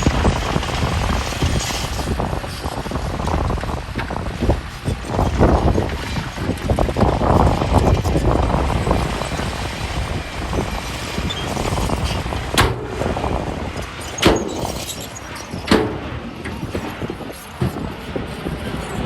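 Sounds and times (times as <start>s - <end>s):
heavy earthmoving machinery running: 0.0s - 19.0s.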